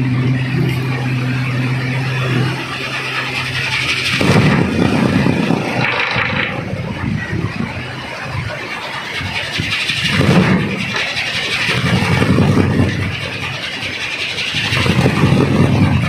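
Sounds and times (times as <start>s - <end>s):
wind rotor throbbing whir: 0.0s - 16.0s.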